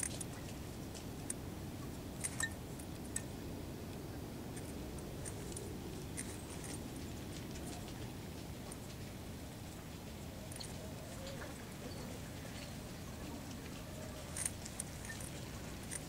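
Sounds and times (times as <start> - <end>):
handling clicks and rustles: 0.0 - 3.3, 3.9 - 16.0
low background noise: 0.0 - 16.0.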